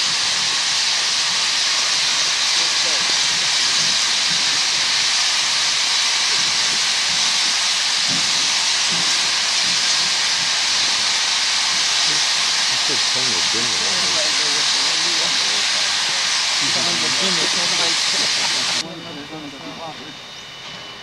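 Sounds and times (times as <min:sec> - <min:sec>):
steam hissing from locomotives: 0:00.0 - 0:21.0.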